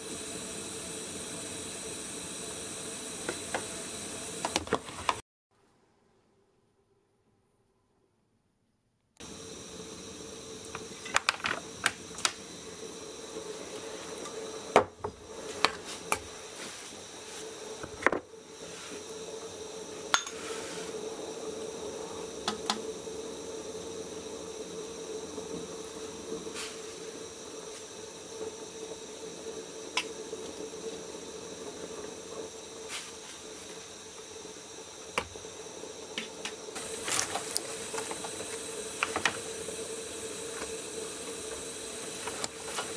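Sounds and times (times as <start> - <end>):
water boiling and bubbling: 0.0 - 5.2, 9.2 - 42.9.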